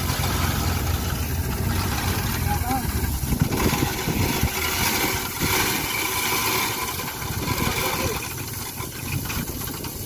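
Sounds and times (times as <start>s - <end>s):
broad hissing noise: 0.0s - 10.0s
diesel truck engine running: 0.0s - 10.0s.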